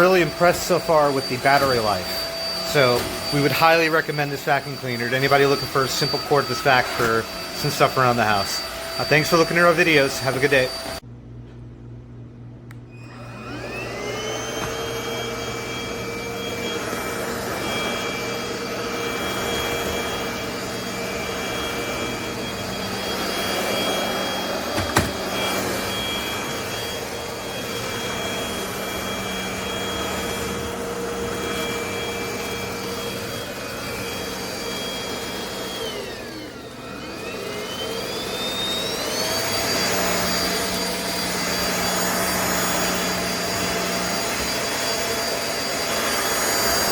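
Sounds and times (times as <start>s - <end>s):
vacuum motor high whine: 0.0s - 11.0s, 12.7s - 46.9s.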